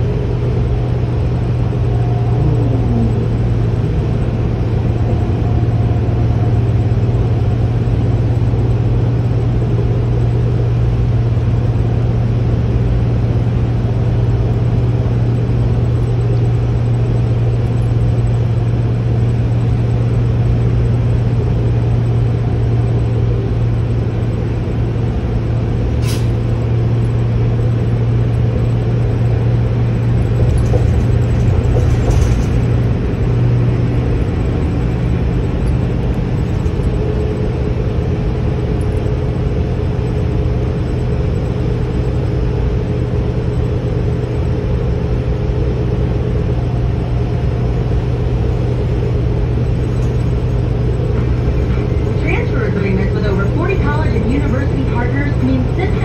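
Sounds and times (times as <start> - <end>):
bus engine drone: 0.0 - 56.0
road rumble: 0.0 - 56.0.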